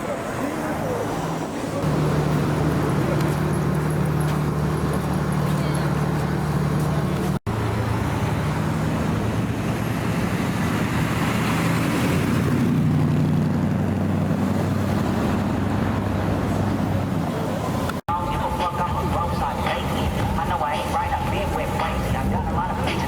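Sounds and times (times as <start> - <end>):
street traffic noise: 0.0 - 23.0
car engine humming: 0.8 - 23.0.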